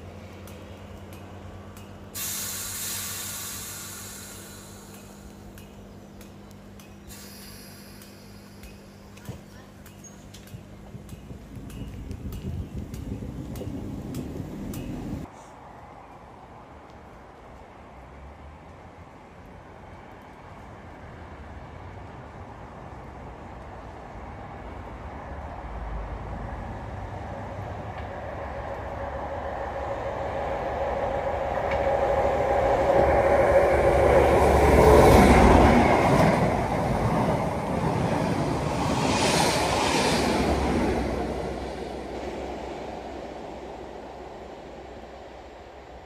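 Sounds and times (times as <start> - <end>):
diesel train passing at speed: 0.0 - 46.0.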